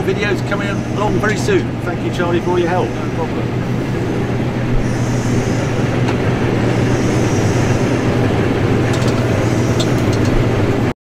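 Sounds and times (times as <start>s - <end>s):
combine harvester engine hum: 0.0s - 10.9s.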